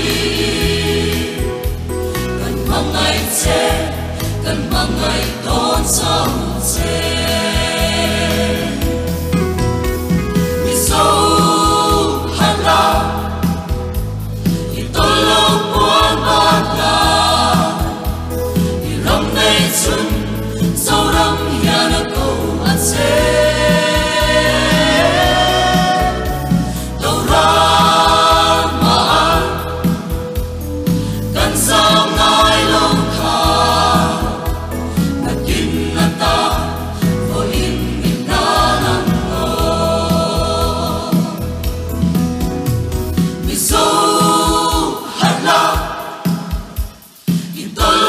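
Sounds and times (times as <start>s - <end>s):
mixed choir singing gospel song: 0.0s - 9.4s, 10.6s - 42.1s, 43.2s - 48.0s.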